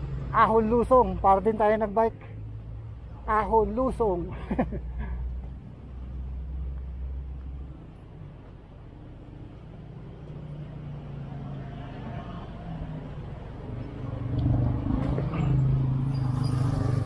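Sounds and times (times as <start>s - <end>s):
street background noise: 0.0s - 17.0s
vehicle engine humming: 0.0s - 17.0s.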